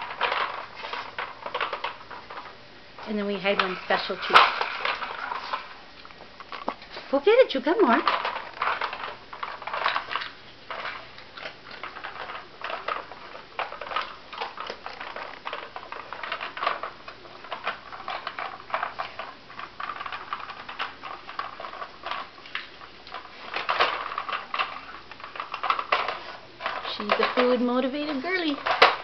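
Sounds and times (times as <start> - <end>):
plastic toy clicking and clattering: 0.0 - 2.5, 3.2 - 5.7, 7.7 - 29.0.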